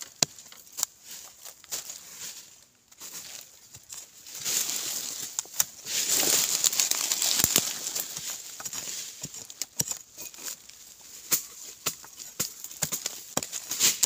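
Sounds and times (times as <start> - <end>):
hand scraping dry soil: 0.0 - 14.0.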